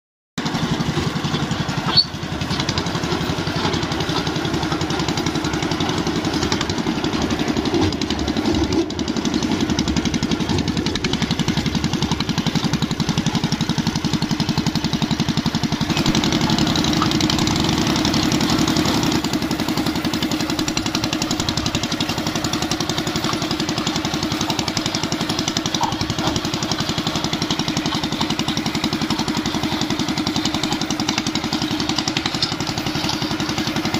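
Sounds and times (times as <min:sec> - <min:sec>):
harvester engine running: 0:00.4 - 0:33.9.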